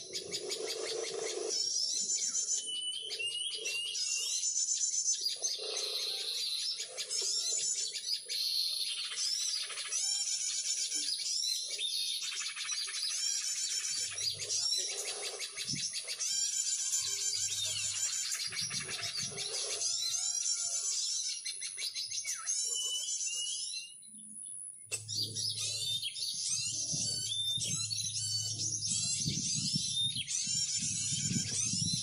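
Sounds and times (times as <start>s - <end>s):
small birds chattering: 0.0s - 32.0s.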